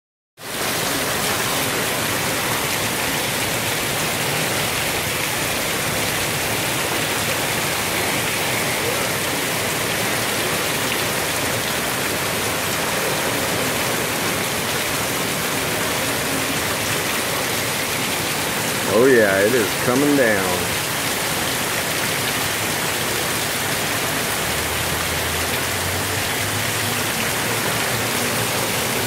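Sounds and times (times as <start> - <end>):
heavy rain pouring: 0.4 - 29.0.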